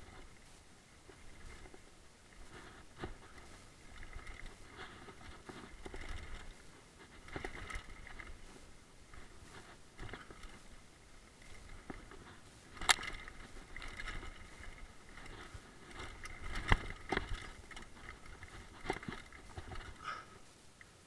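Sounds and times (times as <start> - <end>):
bike rolling on dirt trail: 0.0 - 20.6
bike clattering over bumps: 1.0 - 20.3.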